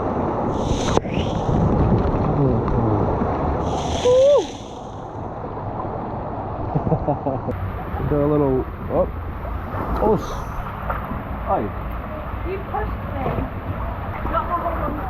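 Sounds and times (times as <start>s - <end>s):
water rushing and splashing: 0.0s - 6.7s, 7.5s - 15.0s.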